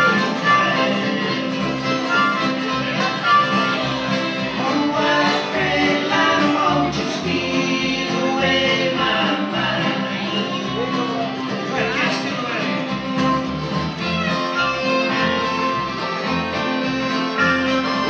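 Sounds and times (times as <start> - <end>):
bass line: 0.0 - 18.0
fiddle: 0.0 - 18.0
harmonica: 0.0 - 18.0
strummed acoustic guitars: 0.0 - 18.0.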